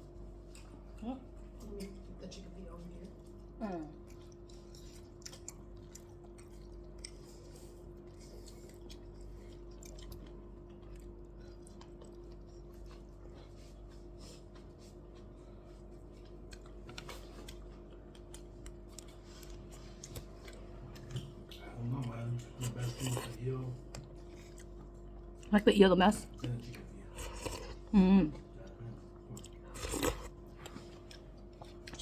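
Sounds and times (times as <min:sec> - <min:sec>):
person chewing food: 0:00.0 - 0:02.2, 0:03.1 - 0:25.5, 0:26.2 - 0:32.0
low electrical hum: 0:00.0 - 0:32.0.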